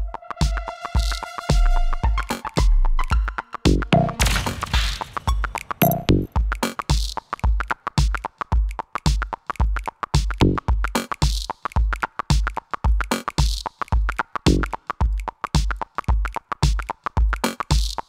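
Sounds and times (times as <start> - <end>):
electronic music with drum machine: 0.0 - 18.0.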